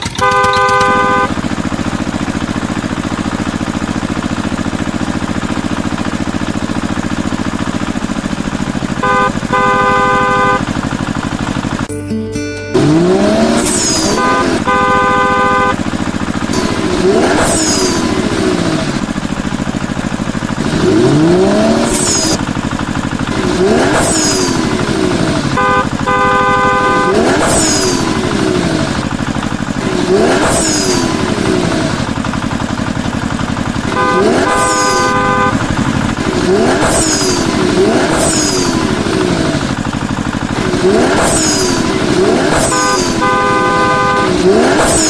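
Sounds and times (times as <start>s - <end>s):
horn honk: 0.0s - 11.9s, 12.8s - 45.0s
engine drone rising and falling: 0.8s - 45.0s.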